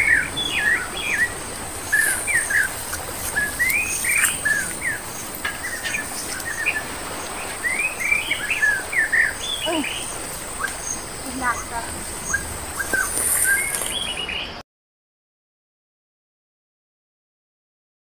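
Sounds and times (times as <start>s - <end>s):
songbirds chirping: 0.0s - 14.6s
steady high-pitched whine: 0.0s - 14.6s.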